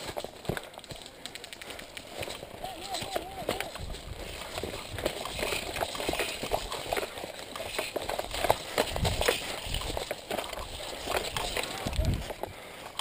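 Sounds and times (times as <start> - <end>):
footsteps crunching through dry grass: 0.0 - 13.0.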